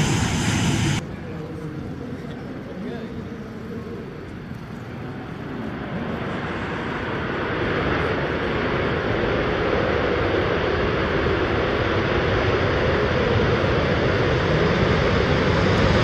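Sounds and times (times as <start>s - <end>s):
jet engines at takeoff power: 0.0s - 16.0s.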